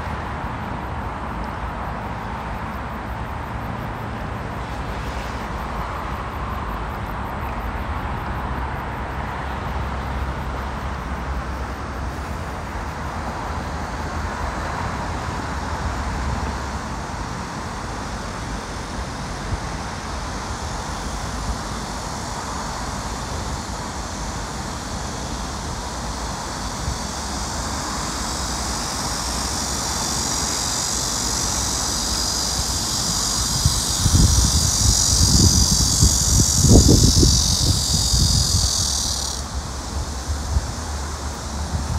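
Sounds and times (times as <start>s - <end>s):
distant road traffic: 0.0s - 41.9s
insect chorus: 0.0s - 41.9s.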